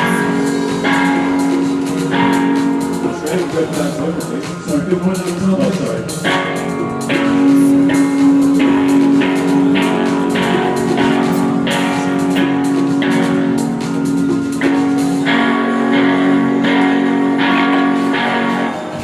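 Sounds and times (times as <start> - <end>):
guitar strumming: 0.0 - 19.0.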